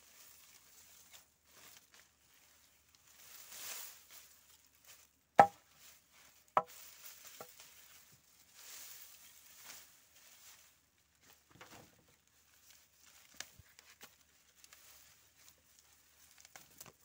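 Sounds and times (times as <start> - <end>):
dry stalks rustling: 0.0 - 17.0.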